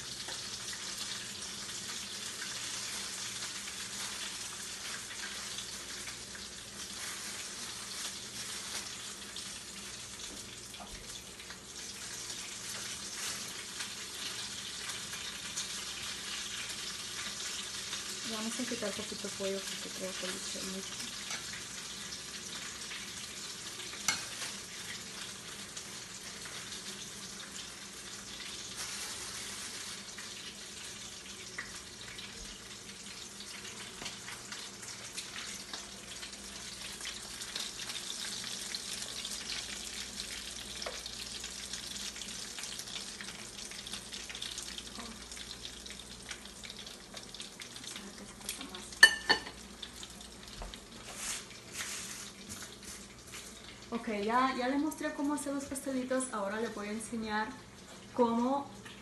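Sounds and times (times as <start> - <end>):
food sizzling in hot oil: 0.0 - 59.0.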